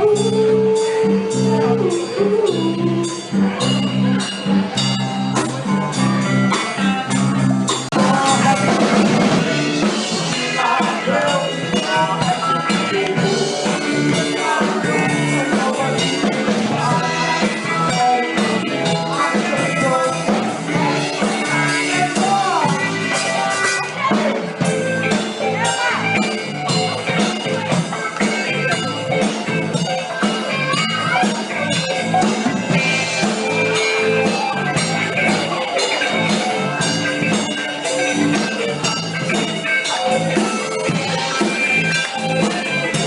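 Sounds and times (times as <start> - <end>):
person singing: 0.0 - 4.4, 7.9 - 43.0
soul band playing: 0.0 - 43.0.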